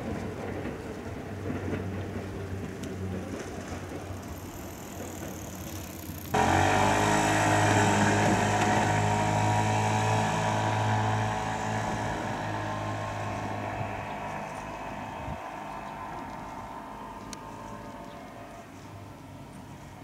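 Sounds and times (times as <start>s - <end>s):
vehicle engine running: 0.5s - 20.0s.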